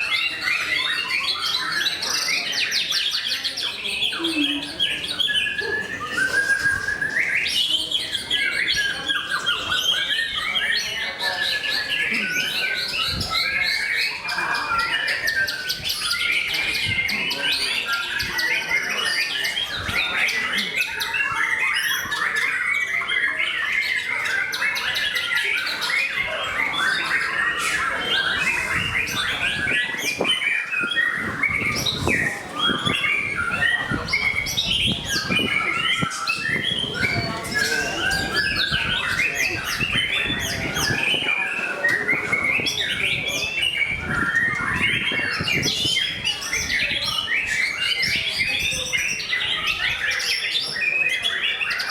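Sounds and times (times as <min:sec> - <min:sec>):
songbird singing rapid chirps: 0:00.0 - 0:51.9.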